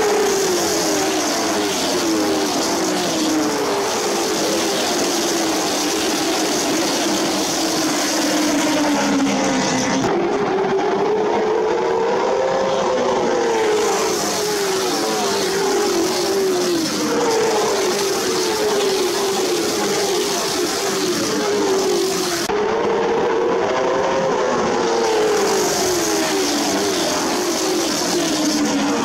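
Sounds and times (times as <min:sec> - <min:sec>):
race car engines racing past: 0:00.0 - 0:29.0.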